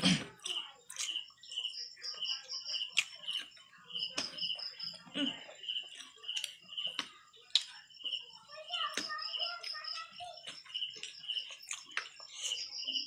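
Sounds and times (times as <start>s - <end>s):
night insects chirping: 1.0s - 13.0s.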